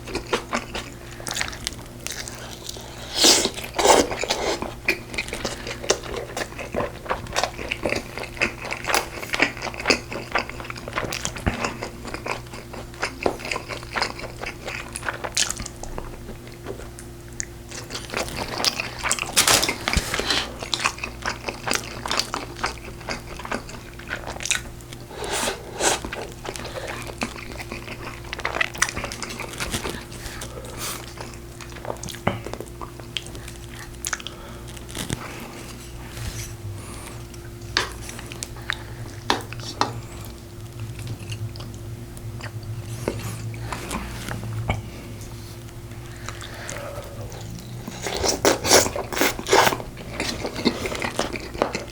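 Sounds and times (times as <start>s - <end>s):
faint steady hum: 0.0s - 51.9s
person chewing and biting food: 0.0s - 51.9s.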